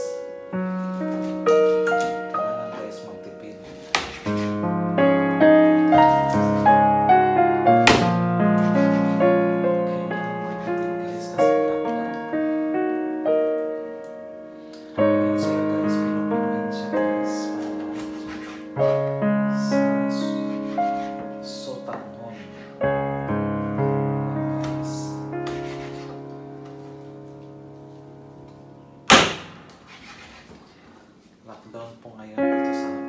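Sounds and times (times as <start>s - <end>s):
piano chords ringing: 0.0s - 29.7s, 32.1s - 33.0s.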